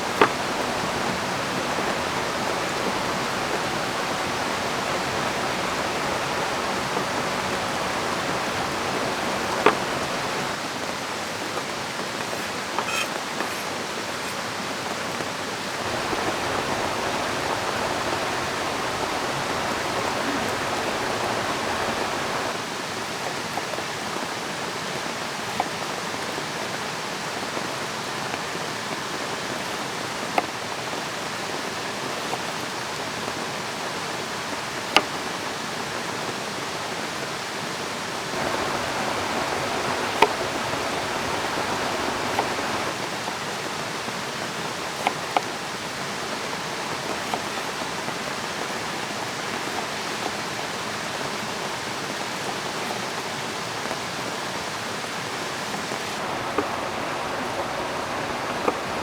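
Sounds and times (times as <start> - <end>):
rain: 0.0 - 59.0
river flowing: 0.0 - 59.0.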